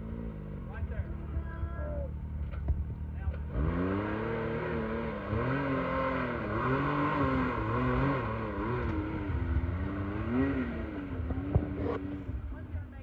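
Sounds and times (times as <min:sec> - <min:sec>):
engine revving in surges: 0:02.1 - 0:12.5.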